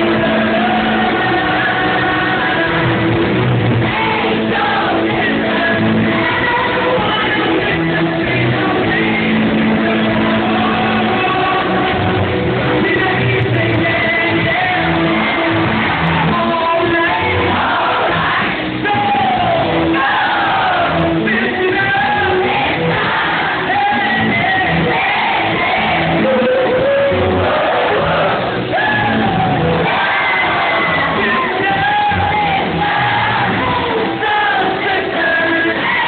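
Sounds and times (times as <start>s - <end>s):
man singing: 0.0s - 36.0s
pop-rock band playing live: 0.0s - 36.0s.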